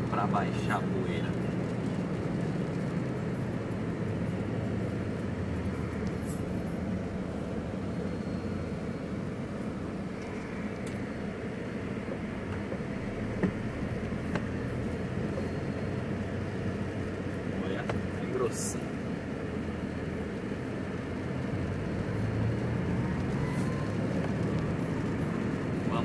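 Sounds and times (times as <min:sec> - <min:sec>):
vehicle engine hum and road noise: 0:00.0 - 0:26.0.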